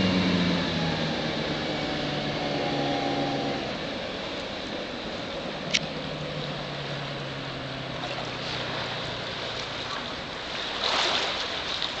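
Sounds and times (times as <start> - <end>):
boat engine hum: 0.0 - 12.0
wind and water noise: 0.0 - 12.0.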